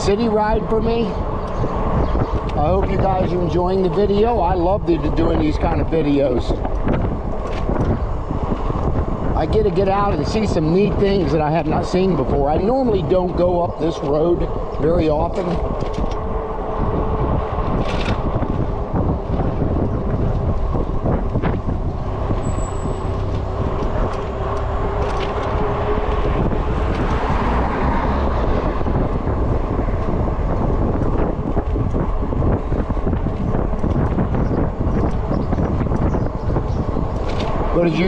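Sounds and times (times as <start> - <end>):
tyre and road noise: 0.0 - 38.0
wind buffeting microphone: 0.0 - 38.0.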